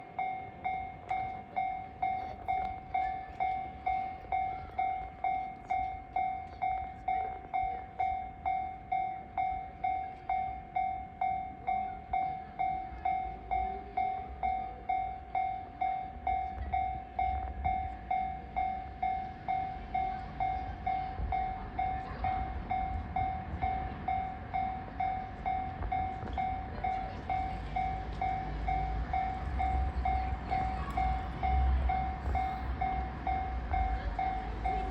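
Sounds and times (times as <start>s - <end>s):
freight train rumble: 0.0s - 34.9s
level crossing bell ringing: 0.0s - 34.9s.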